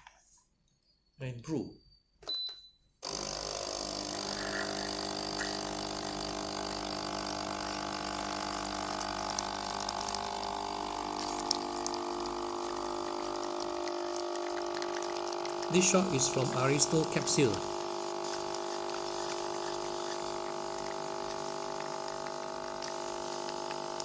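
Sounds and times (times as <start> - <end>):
espresso machine pump humming: 3.0 - 24.0.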